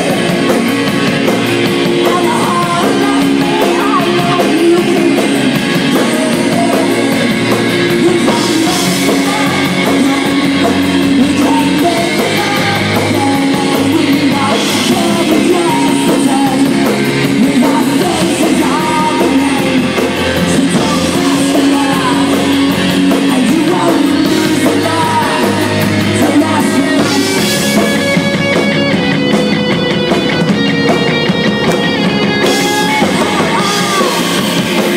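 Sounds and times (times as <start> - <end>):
drums: 0.0 - 34.9
electric guitar: 0.0 - 34.9
man singing into microphone: 1.9 - 28.0, 32.4 - 34.7.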